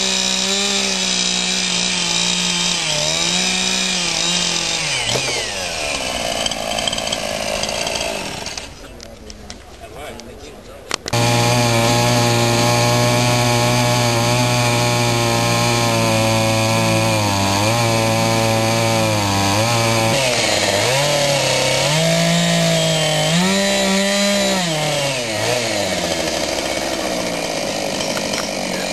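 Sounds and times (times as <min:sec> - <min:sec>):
chainsaw cutting log: 0:00.0 - 0:08.8, 0:11.1 - 0:28.9.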